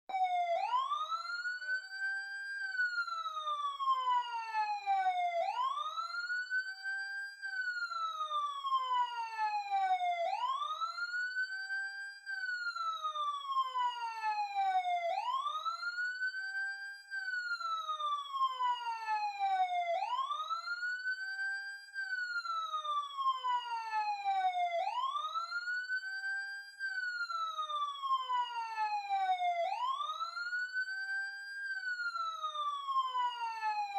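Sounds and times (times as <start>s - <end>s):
emergency siren wailing: 0.1s - 33.9s.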